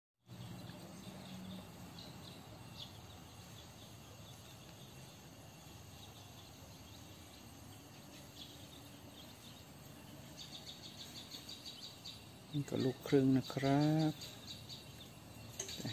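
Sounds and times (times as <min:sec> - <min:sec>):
insects chirping: 0:00.3 - 0:15.9.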